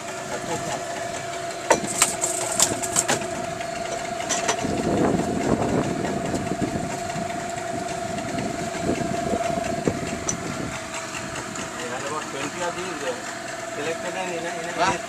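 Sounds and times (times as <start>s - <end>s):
boat motor whining: 0.0s - 15.0s
loud rumbling: 0.1s - 15.0s.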